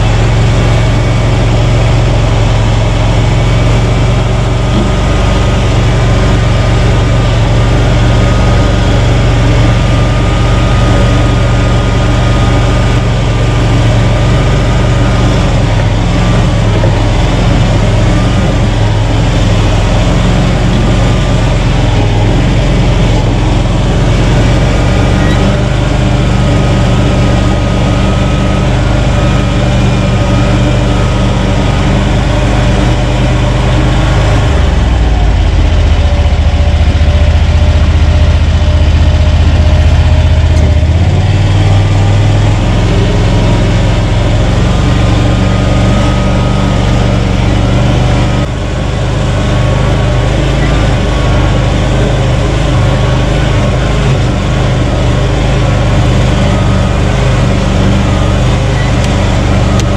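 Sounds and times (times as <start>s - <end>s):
vehicle engine running loudly: 0.0s - 59.9s.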